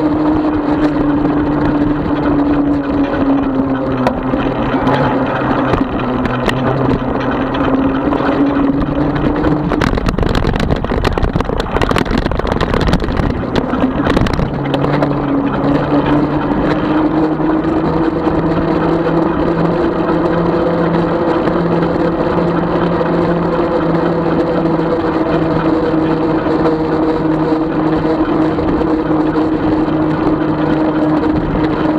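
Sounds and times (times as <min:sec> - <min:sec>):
electric bike motor humming: 0:00.0 - 0:31.9
wind and road noise: 0:00.0 - 0:31.9
rough rattling with clicks: 0:00.5 - 0:31.9.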